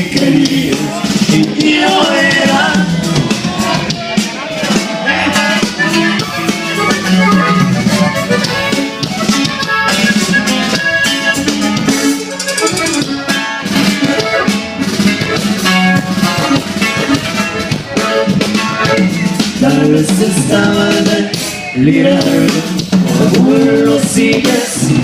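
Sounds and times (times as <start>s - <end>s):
accordion melody: 0.0s - 25.0s
bass: 0.0s - 25.0s
drum beat: 0.0s - 25.0s.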